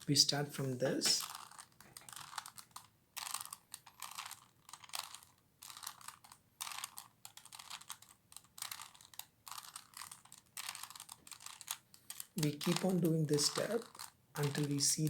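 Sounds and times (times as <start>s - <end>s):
puzzle cube plastic clicking: 0.9s - 15.0s.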